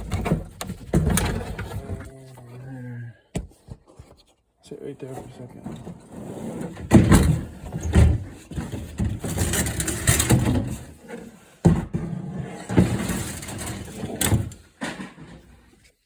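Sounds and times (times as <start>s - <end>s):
rustling and scraping: 0.0s - 2.8s, 3.5s - 16.0s.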